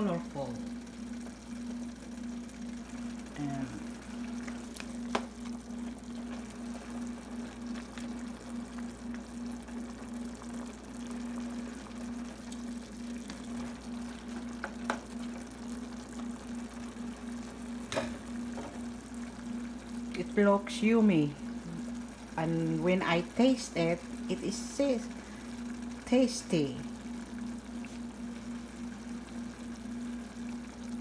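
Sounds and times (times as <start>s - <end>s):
low hum: 0.0s - 31.0s
sauce bubbling in a pan: 0.0s - 31.0s.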